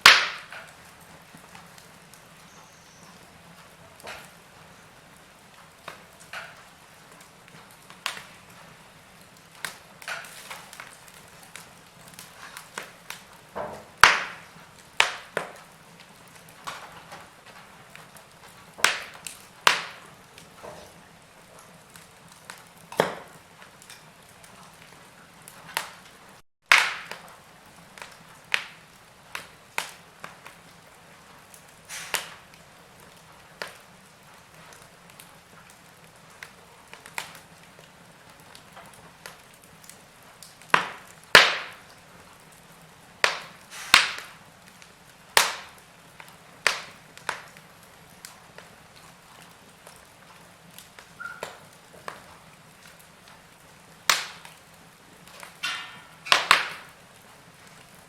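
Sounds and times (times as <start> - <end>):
logs crackling in a fireplace: 0.0 - 58.0
soft steady hiss: 0.0 - 58.0.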